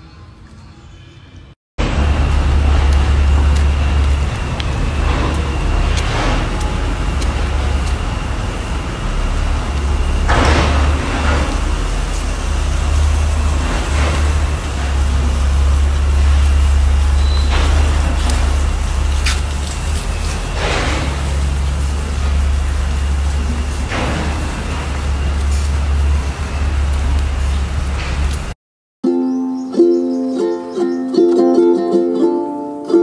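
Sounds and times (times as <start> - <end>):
low rumble: 1.8 - 28.6
noisy hiss: 1.8 - 28.6.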